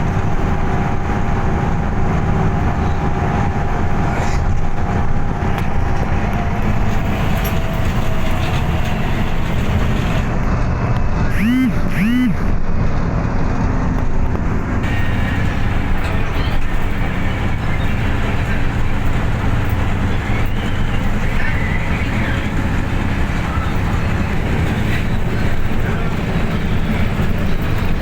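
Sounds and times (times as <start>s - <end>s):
heavy truck engine drone: 0.0s - 28.0s
road noise: 0.0s - 28.0s.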